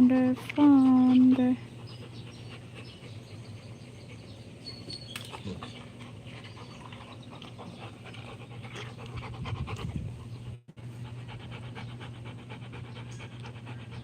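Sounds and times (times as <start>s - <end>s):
dog panting rapidly: 0.0s - 14.0s
steady low hum: 0.0s - 14.0s.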